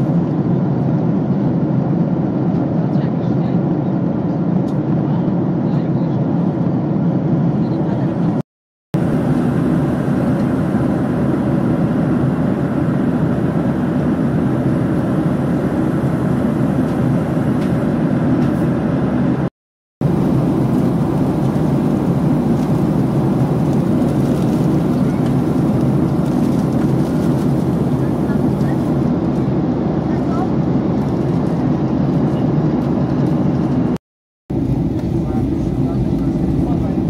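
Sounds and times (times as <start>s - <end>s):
jet engine drone in cabin: 0.0s - 8.4s, 9.0s - 37.0s.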